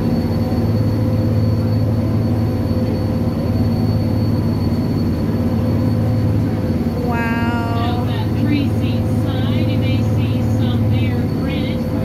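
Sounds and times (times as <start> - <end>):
faint high whine: 0.0 - 12.0
train low drone and hum: 0.0 - 12.0.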